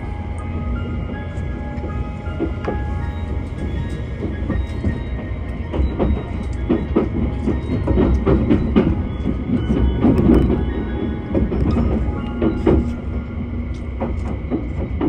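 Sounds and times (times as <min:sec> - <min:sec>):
train low rumble: 0:00.0 - 0:15.0
wheel clacks over rail joints: 0:00.4 - 0:15.0.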